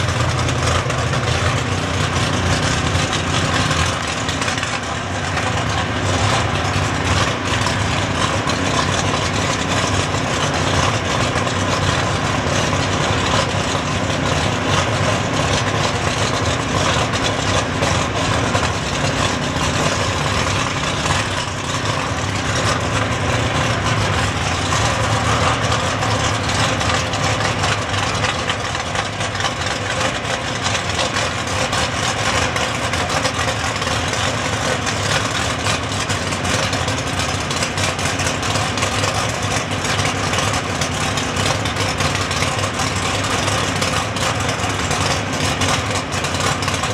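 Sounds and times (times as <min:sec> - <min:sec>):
race car engine idling: 0:00.0 - 0:46.9.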